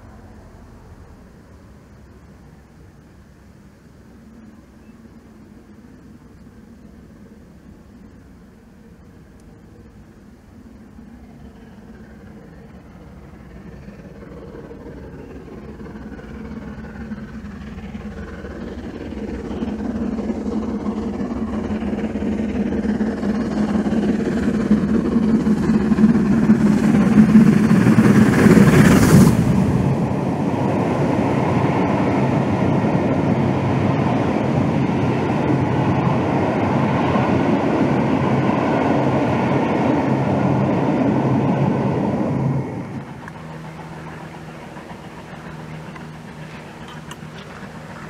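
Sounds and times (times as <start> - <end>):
coach wheels rumbling on rails: 0.0 - 48.0
distant steam train: 0.0 - 48.0
steam locomotive passing: 0.0 - 48.0.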